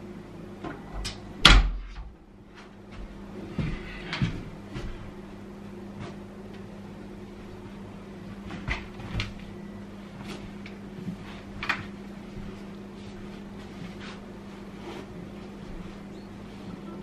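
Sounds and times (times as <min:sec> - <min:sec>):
steady low hum: 0:00.0 - 0:17.0
footsteps in a room: 0:02.0 - 0:17.0.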